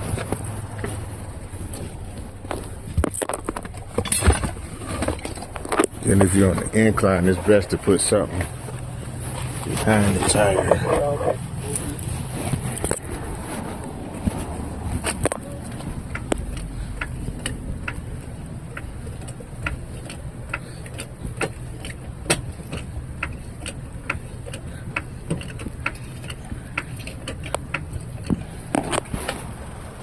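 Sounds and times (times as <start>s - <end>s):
low steady hum: 0.0s - 30.0s
tire tools metallic clicks: 0.0s - 30.0s.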